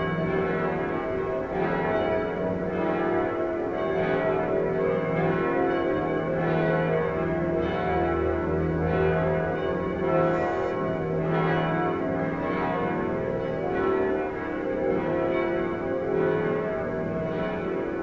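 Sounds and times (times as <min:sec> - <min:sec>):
church bells ringing peal: 0:00.0 - 0:18.0.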